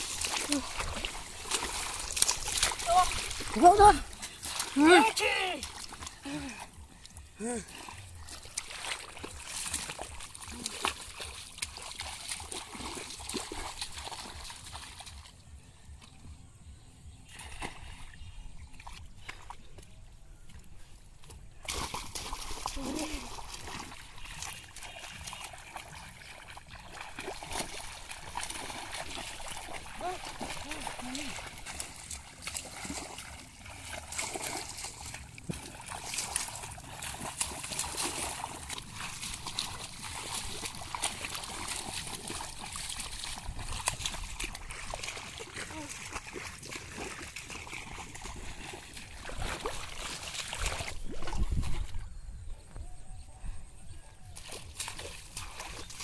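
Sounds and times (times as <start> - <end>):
sharp water splash: 0.0 - 6.4, 8.2 - 15.3, 21.6 - 52.0, 54.4 - 56.0
shallow water trickling and splashing: 0.0 - 16.3, 17.2 - 52.2, 54.2 - 56.0.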